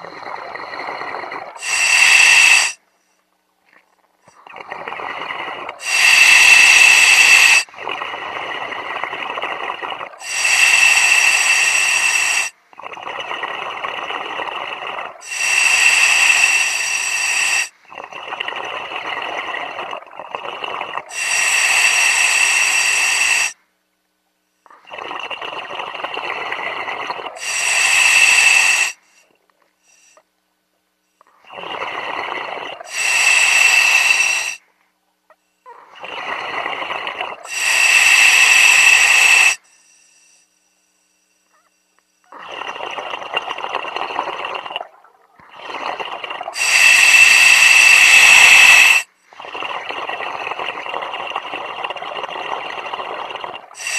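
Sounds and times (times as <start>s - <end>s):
diver breathing through regulator: 0.0s - 2.8s, 4.4s - 23.6s, 24.7s - 30.3s, 31.2s - 34.6s, 35.6s - 53.9s.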